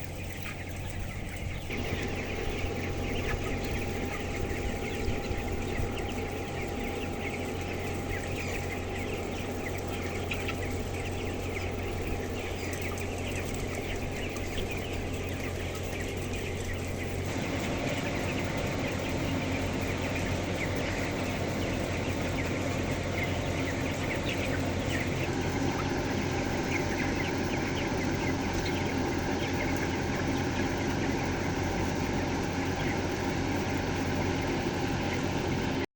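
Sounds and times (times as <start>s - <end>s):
chickens clucking and peeping: 0.0s - 35.9s
low hum: 1.0s - 35.9s.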